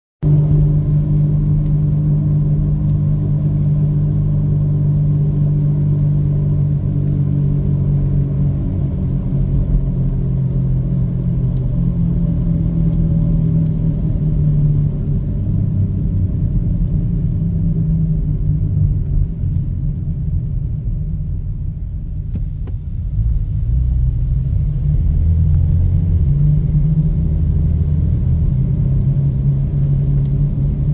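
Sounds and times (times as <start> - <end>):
car low hum over rumble: 0.2 - 30.9.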